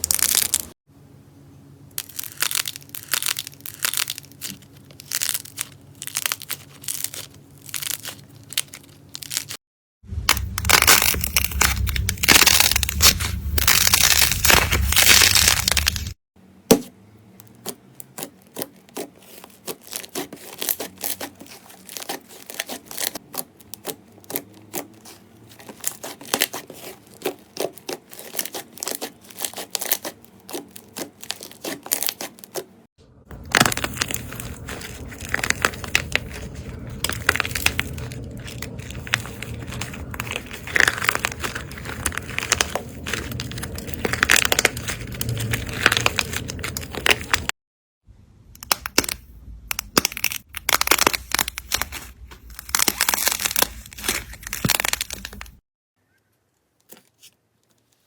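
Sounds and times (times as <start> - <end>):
slime crackling and popping: 0.0 - 0.8, 2.0 - 9.6, 10.2 - 16.9, 17.6 - 32.7, 33.3 - 47.5, 48.6 - 55.6
slime crinkling: 0.0 - 0.8, 2.0 - 9.6, 10.2 - 47.5, 48.6 - 55.6.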